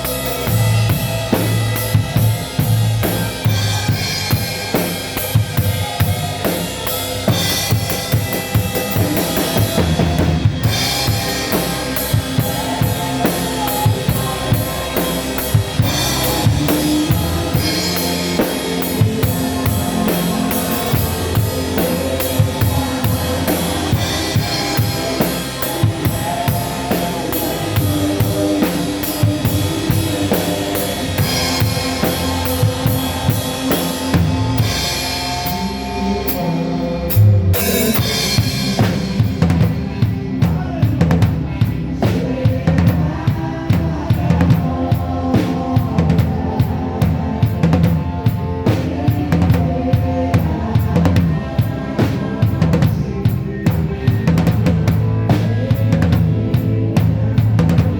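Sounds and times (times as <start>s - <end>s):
band playing a hymn: 0.0s - 57.9s
live drum kit steady beat: 0.0s - 57.9s.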